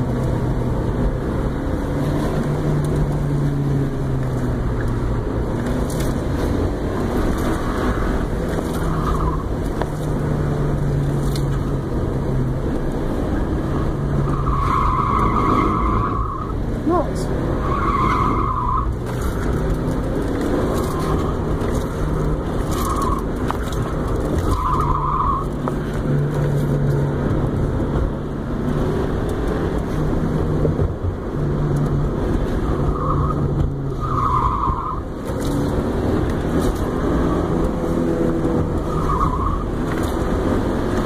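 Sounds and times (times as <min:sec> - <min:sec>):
car engine under hard driving: 0:00.0 - 0:41.0
tires squealing: 0:00.7 - 0:41.0.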